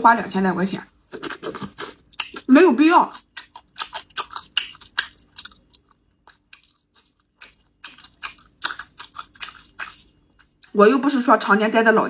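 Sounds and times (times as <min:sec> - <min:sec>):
person chewing food: 0:01.0 - 0:10.8.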